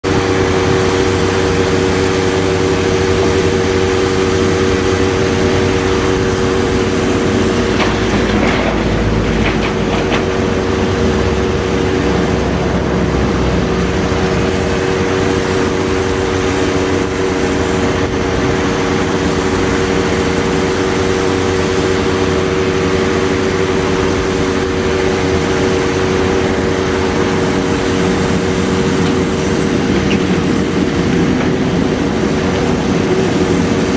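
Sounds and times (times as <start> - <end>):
excavator engine droning: 0.0 - 33.9.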